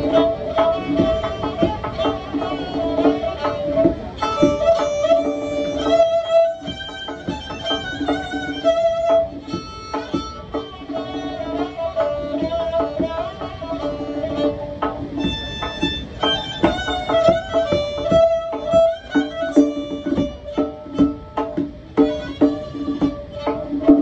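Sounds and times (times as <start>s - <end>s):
bowed fiddle melody with vibrato: 0.0s - 24.0s
plucked string instrument: 0.0s - 24.0s.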